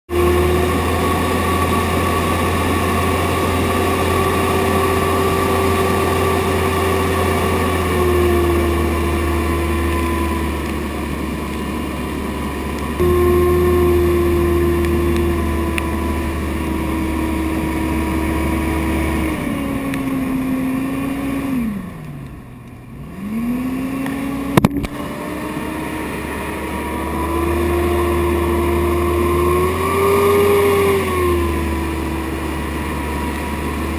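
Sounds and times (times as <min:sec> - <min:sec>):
motorboat engine running: 0:00.1 - 0:33.9.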